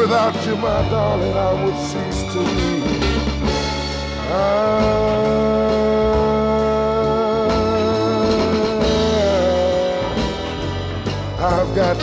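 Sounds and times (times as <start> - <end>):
pop love song with band: 0.0 - 12.0.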